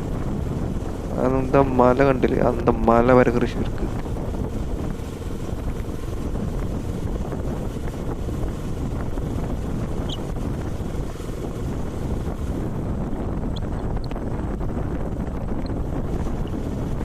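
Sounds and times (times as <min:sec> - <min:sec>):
motorcycle engine: 0:00.0 - 0:17.0
road noise: 0:00.0 - 0:17.0
wind buffeting microphone: 0:00.0 - 0:17.0.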